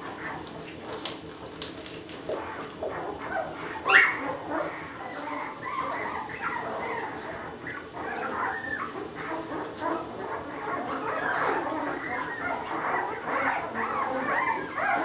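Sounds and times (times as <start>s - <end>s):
puppies whimpering and squeaking: 0.0s - 15.0s
puppy squealing: 2.3s - 15.0s.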